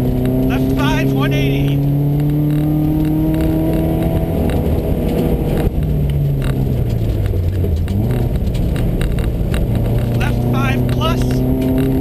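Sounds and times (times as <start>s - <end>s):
car engine under load: 0.0s - 12.0s
tyre and road noise: 0.0s - 12.0s.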